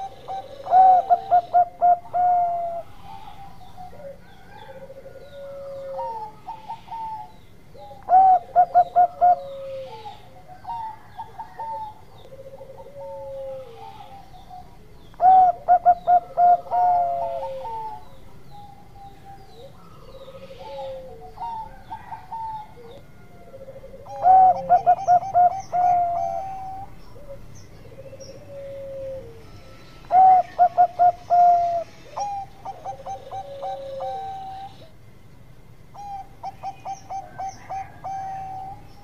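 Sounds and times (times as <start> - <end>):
dove cooing: 0.0 - 35.0, 35.9 - 39.0.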